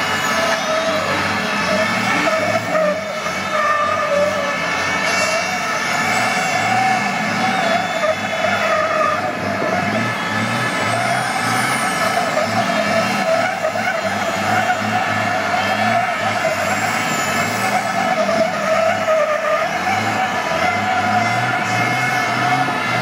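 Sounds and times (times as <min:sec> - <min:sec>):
diesel truck engine revving: 0:00.0 - 0:23.0
tyres skidding on asphalt: 0:00.0 - 0:23.0.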